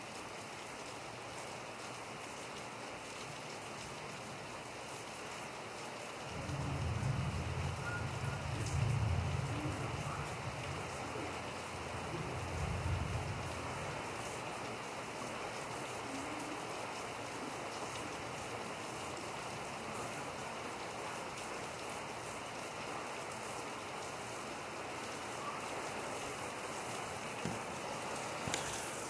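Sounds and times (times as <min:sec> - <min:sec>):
heavy rain on pavement and cars: 0:00.0 - 0:29.0.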